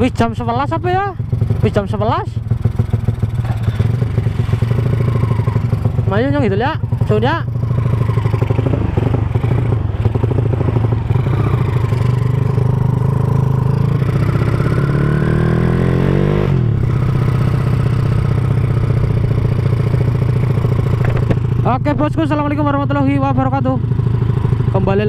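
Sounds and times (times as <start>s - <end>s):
motorcycle engine running loud: 0.0s - 25.0s.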